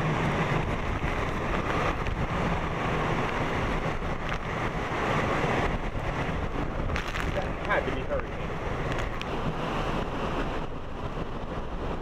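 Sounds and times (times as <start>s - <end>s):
driving rain: 0.0s - 12.0s
wind buffeting microphone: 0.0s - 12.0s
wind gusting: 0.0s - 12.0s.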